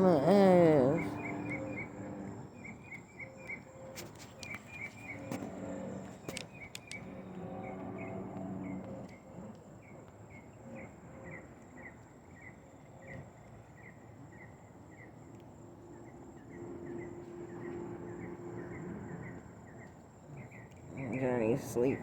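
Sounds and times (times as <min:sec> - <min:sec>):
low hum: 0:00.0 - 0:13.5, 0:14.8 - 0:22.0
insects chirping: 0:00.0 - 0:22.0.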